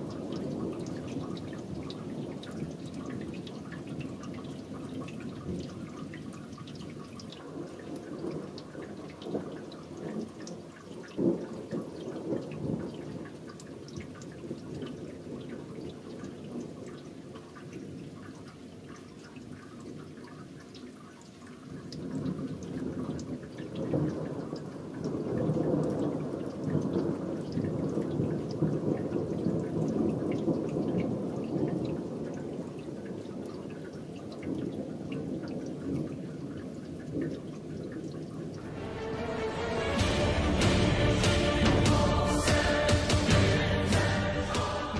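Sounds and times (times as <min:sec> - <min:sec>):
water dripping: 0:00.0 - 0:39.4
rain: 0:00.0 - 0:44.9.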